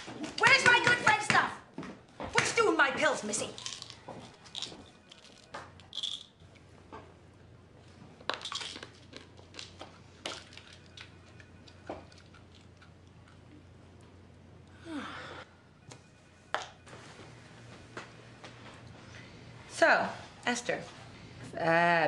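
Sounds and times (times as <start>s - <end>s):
low steady hum: 1.6s - 22.0s.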